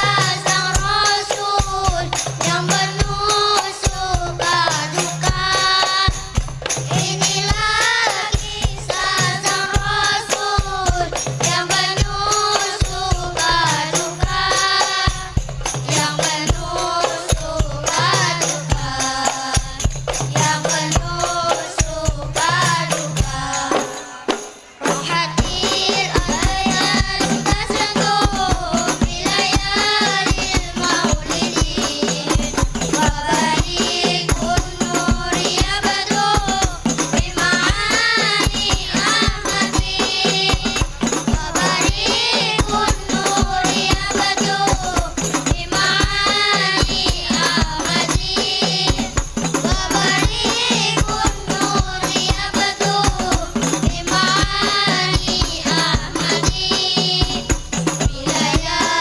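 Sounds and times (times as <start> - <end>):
hand percussion beat: 0.0 - 59.0
voices singing devotional chant: 0.0 - 59.0.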